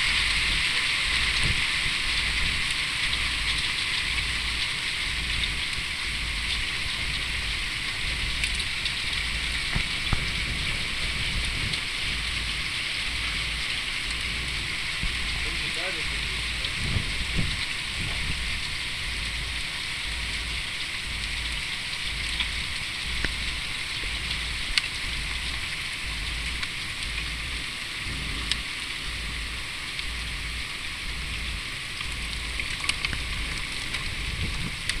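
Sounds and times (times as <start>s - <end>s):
hailstones clicking: 0.0s - 35.0s
rain hissing on paving: 0.0s - 35.0s.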